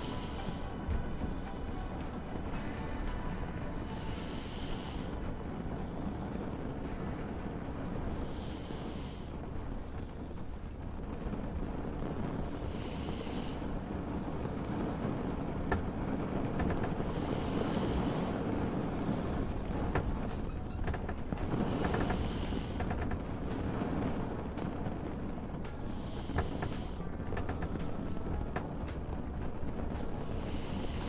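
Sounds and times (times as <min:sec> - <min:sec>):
light ticks and drips: 0:00.0 - 0:31.0
steady rain: 0:00.0 - 0:31.0
water rumbling around a boat: 0:00.0 - 0:31.0.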